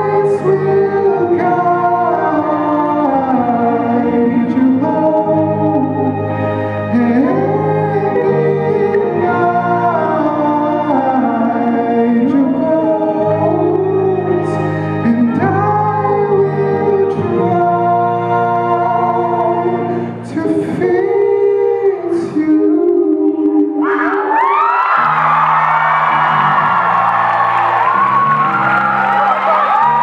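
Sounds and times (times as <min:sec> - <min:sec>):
live band playing: 0:00.0 - 0:21.4, 0:22.2 - 0:30.0
person singing: 0:00.0 - 0:25.4.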